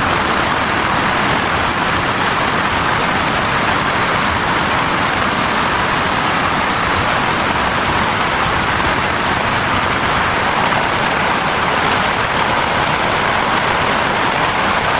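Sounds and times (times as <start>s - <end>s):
heavy rain: 0.0s - 14.9s.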